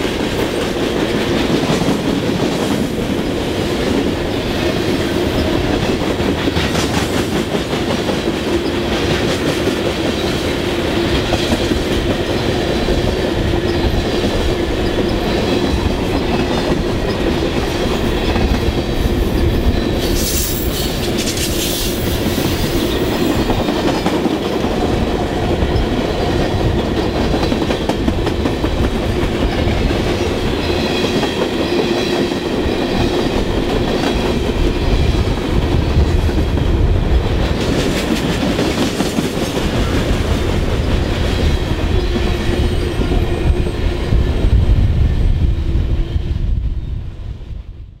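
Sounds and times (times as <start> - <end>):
freight train wheels clattering: 0.0 - 44.5.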